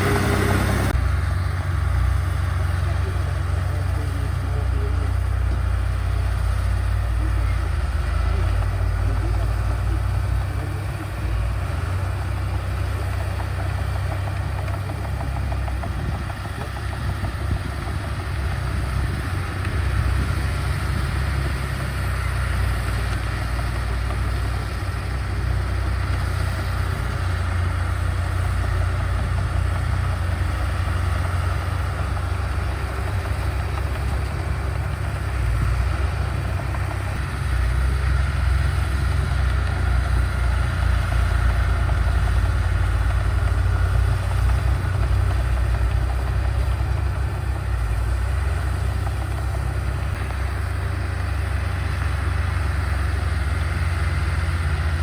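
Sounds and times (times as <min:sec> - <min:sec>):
heavy machinery diesel engine rumbling: 0:00.0 - 0:55.0.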